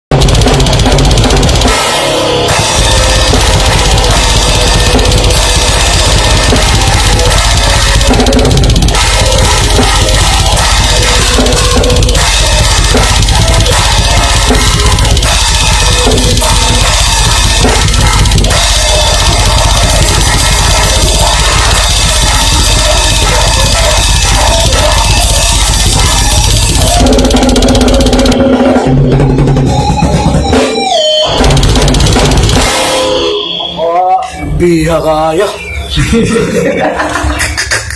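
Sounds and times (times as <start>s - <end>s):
bass drum: 0.1s - 33.0s
heavy rock band playing: 0.1s - 34.4s.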